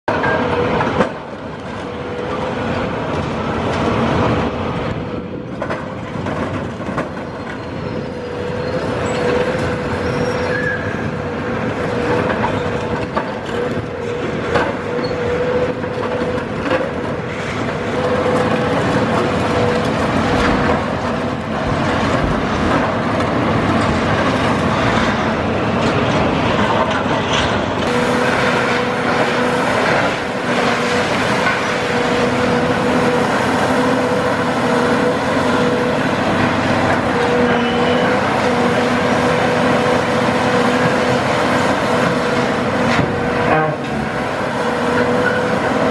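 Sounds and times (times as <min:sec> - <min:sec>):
diesel engines and hydraulics: 0:00.1 - 0:45.9.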